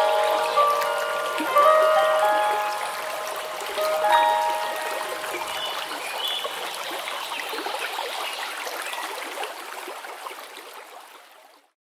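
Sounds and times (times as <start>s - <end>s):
water trickling and babbling: 0.0s - 11.8s.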